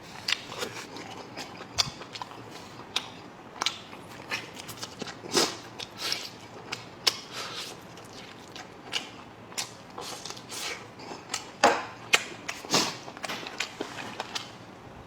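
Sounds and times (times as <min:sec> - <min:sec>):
chewing and mouth smacks: 0:00.2 - 0:14.6.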